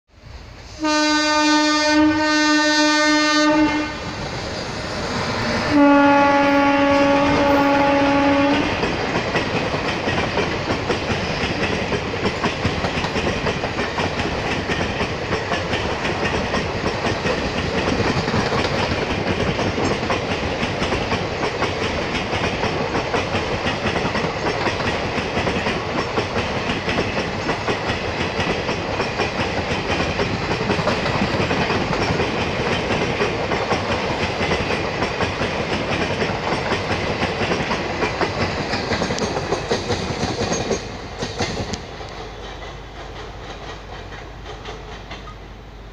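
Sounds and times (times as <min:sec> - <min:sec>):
train wheels clickety-clack: 0:00.6 - 0:45.6.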